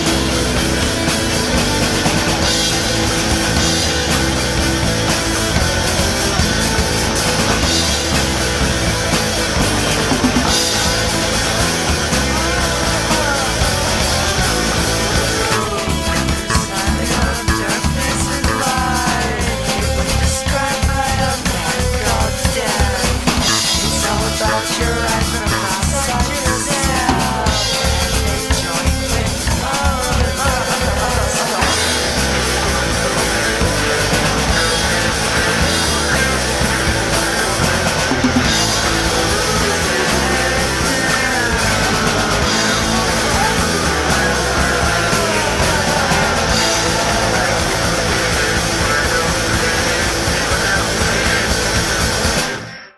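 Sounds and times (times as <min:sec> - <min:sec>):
drum kit beat: 0:00.0 - 0:52.6
rock band playing: 0:00.0 - 0:52.8.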